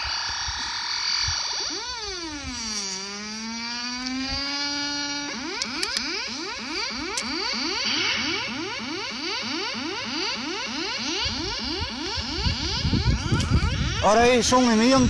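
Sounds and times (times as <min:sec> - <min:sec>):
electronic synthesizer music: 0:00.0 - 0:15.0.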